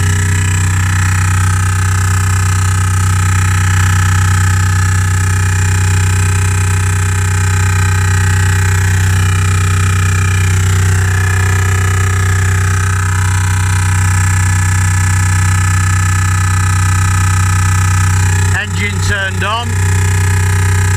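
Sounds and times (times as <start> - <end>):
drilling noise from bass speaker: 0.0 - 20.9.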